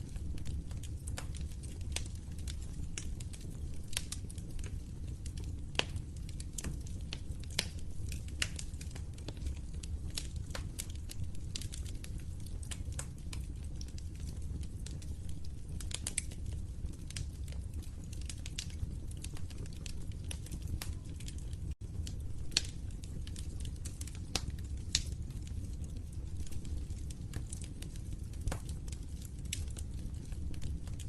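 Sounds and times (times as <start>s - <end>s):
fire pops: 0.0s - 31.0s
low rumble of burning: 0.0s - 31.0s.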